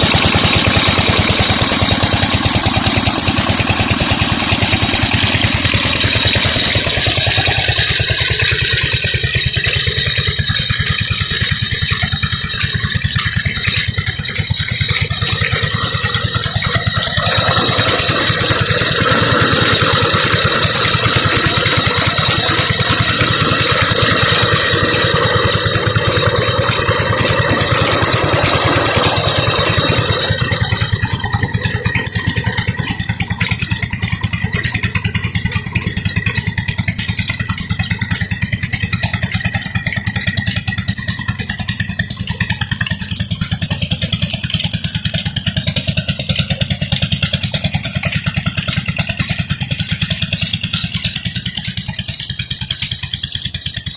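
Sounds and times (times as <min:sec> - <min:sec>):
diesel pump engine running: 0:00.0 - 0:53.9.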